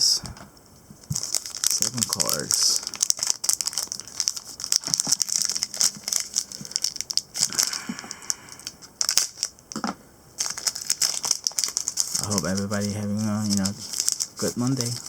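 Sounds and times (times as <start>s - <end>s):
plastic wrap crinkling: 1.0s - 15.0s.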